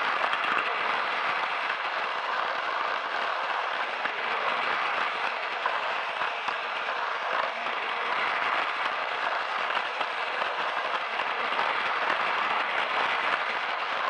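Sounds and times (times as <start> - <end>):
toy train motor whirring: 0.0 - 14.0
wheels rattling on plastic rails: 0.0 - 14.0.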